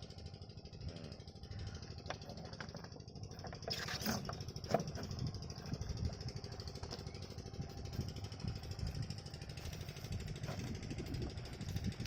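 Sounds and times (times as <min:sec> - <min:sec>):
diesel pump engine chugging: 0:00.0 - 0:12.0.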